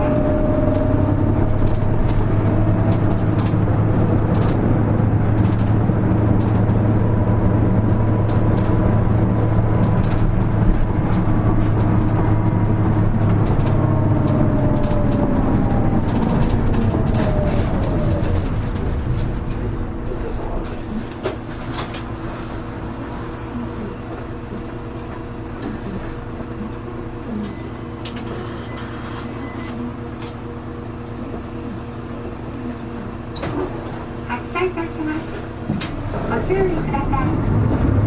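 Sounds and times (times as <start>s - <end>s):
bus engine drone: 0.0s - 38.0s.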